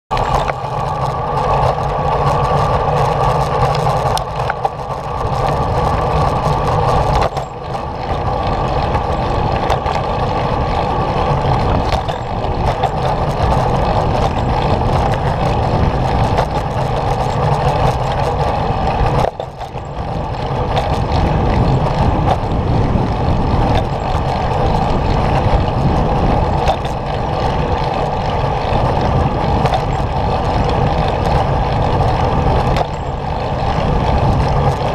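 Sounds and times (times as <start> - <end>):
wheels rolling over pavement: 0.1 - 34.9.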